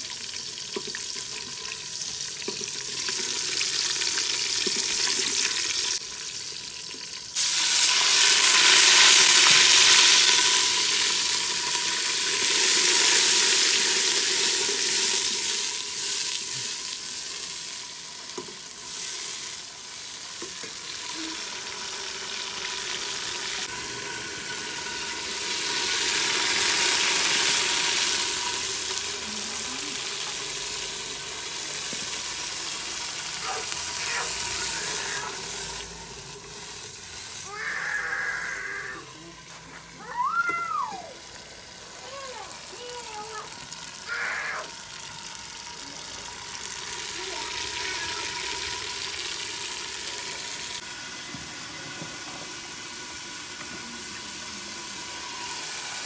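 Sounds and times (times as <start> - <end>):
pot of water sizzling: 0.0 - 56.0.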